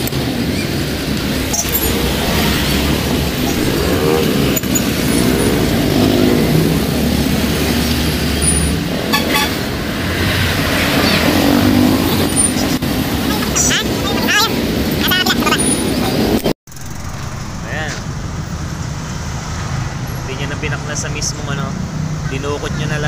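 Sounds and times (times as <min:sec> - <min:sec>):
traffic passing: 0:00.0 - 0:23.0.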